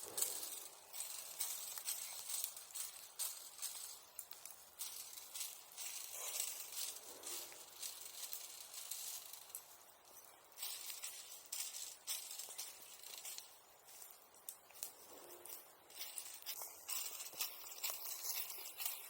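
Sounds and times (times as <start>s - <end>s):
embers hissing: 0.0s - 19.0s
fire crackling: 0.0s - 19.0s.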